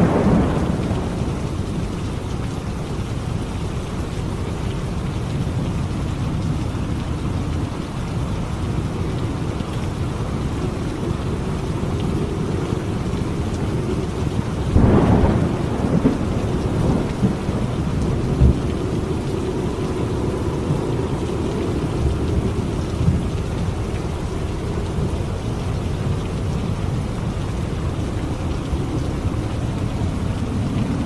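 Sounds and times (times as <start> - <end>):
thunder clap and rumble: 0.0 - 5.8, 8.8 - 31.0
heavy rain: 0.0 - 31.0.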